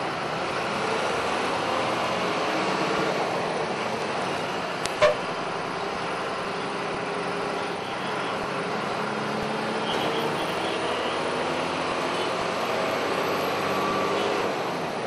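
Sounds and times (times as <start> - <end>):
bus engine running: 0.0 - 15.0
road noise hum: 0.0 - 15.0.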